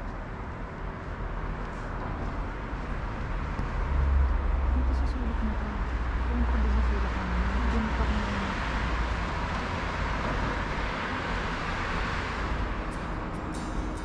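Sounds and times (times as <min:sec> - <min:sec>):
road traffic rumble and hiss: 0:00.0 - 0:14.0.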